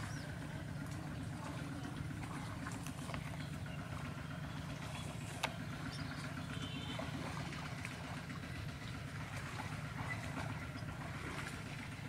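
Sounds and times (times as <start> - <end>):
engine running drone: 0.0 - 12.0.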